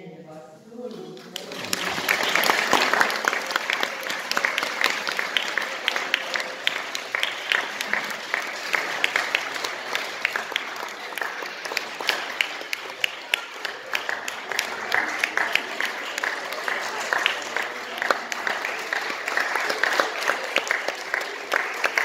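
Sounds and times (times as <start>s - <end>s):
crowd applauding: 0.9s - 22.0s.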